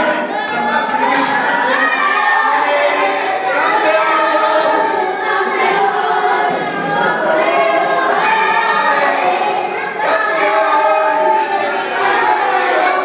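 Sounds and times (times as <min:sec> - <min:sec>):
boys chanting in unison: 0:00.0 - 0:13.0.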